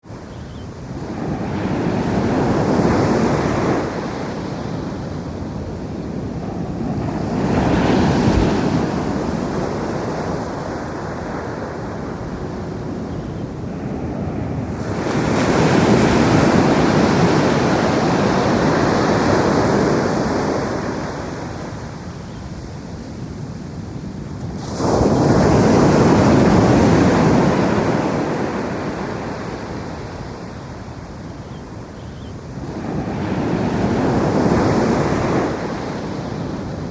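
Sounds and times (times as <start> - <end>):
big waves crashing: 0.0 - 36.9
ocean waves breaking on beach: 0.0 - 36.9.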